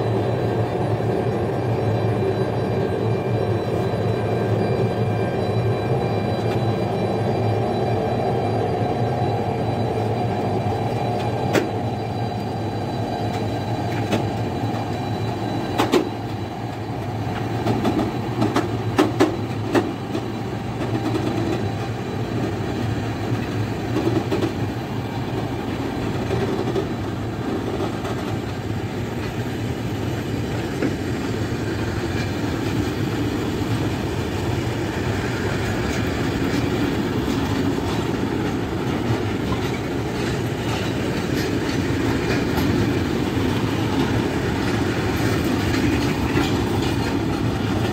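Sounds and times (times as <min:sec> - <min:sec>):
train wheels clacking on rails: 0:00.0 - 0:47.9.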